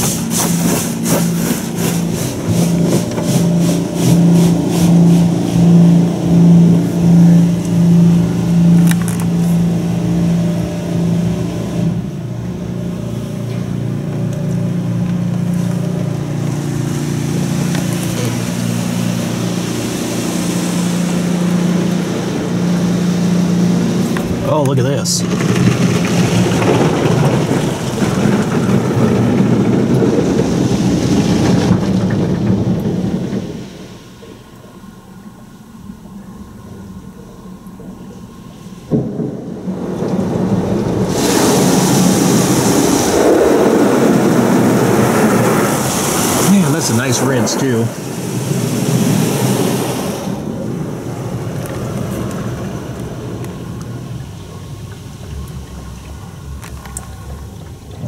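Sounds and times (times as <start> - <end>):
water spray drumming on car roof: 0.0 - 34.3, 38.8 - 58.0
steady low noise: 0.0 - 58.0.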